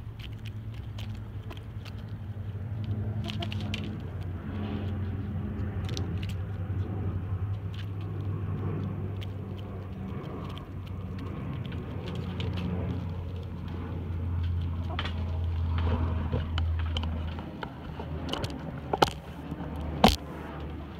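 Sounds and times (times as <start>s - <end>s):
chickens pecking dry dirt: 0.0s - 20.9s
steady low hum: 0.0s - 20.9s.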